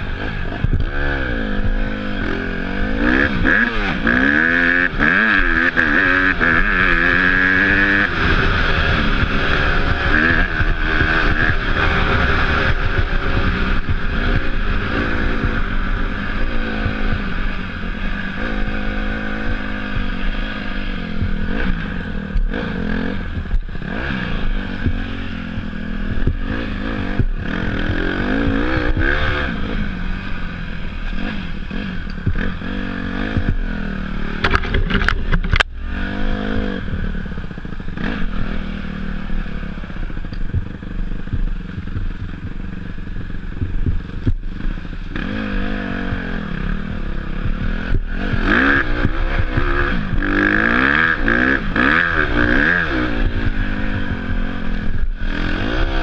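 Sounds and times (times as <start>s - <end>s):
dirt bike engine revving: 0.0s - 56.0s
steady rushing noise: 0.0s - 56.0s.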